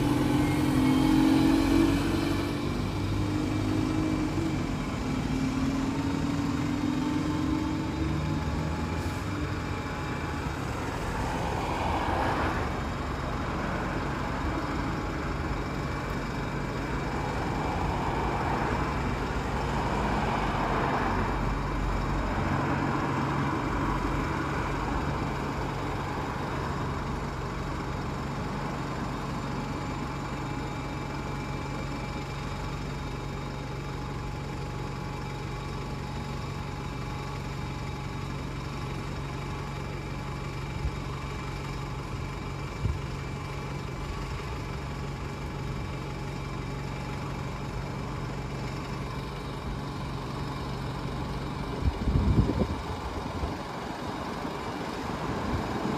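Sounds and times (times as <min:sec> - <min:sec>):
bus diesel engine idling: 0:00.0 - 0:55.9.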